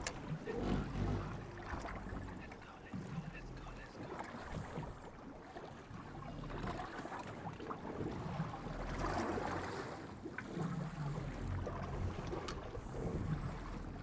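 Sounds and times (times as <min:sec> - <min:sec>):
water splashing against boat hull: 0:00.0 - 0:14.0.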